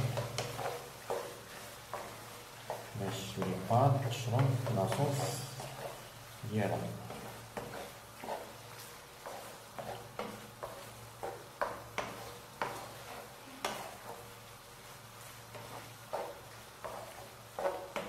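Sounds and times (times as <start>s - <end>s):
wooden spoon stirring pasta in pan: 0.0s - 18.0s.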